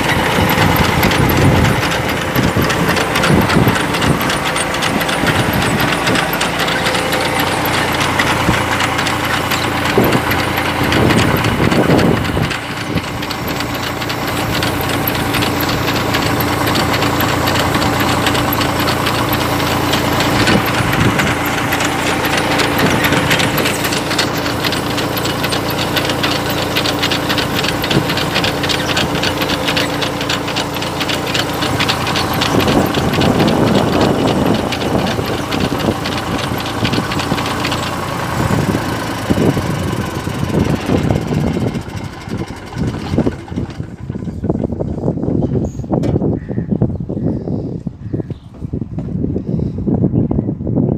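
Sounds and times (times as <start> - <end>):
potato harvester rattling: 0.0 - 46.6
tractor engine running: 0.0 - 49.8.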